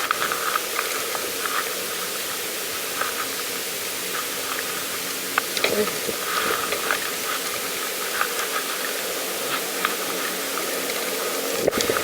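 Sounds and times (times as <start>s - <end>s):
bicycle tyres hissing on path: 0.0s - 12.0s.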